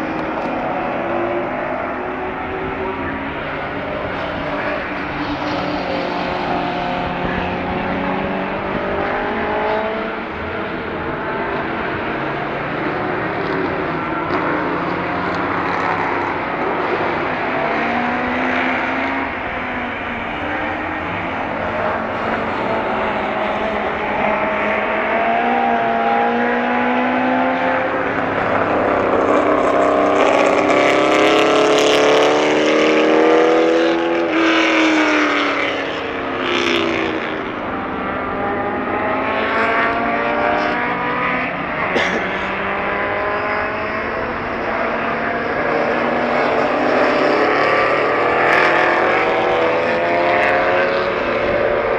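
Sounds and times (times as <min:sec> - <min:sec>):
racing car engines revving: 0:00.0 - 0:51.9.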